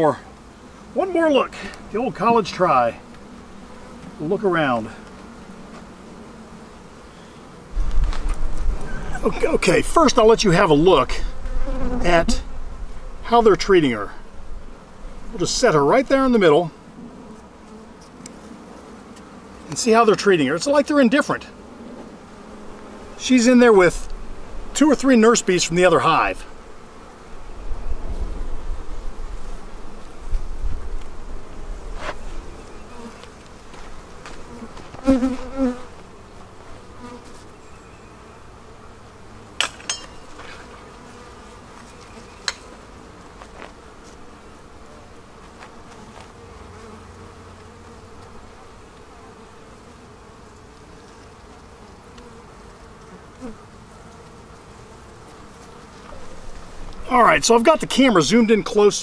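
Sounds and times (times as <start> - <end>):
honeybees buzzing: 0.0 - 59.0.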